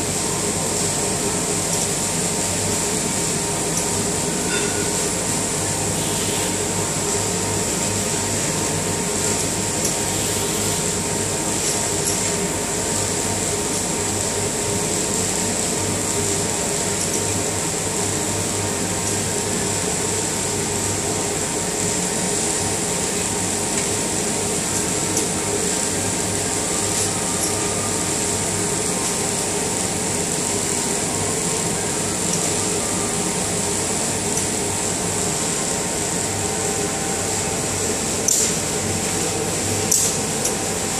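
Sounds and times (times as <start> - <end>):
constant high hiss: 0.0 - 40.9
machine hum and whine: 0.0 - 40.9.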